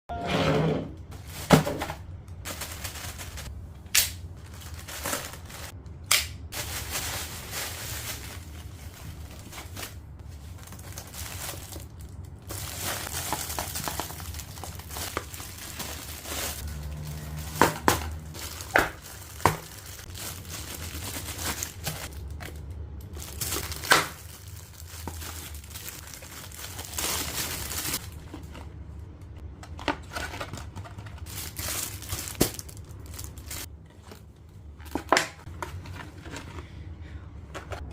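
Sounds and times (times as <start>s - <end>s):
packaging crinkling and tearing: 1.3s - 5.8s, 6.5s - 28.7s, 29.7s - 33.7s.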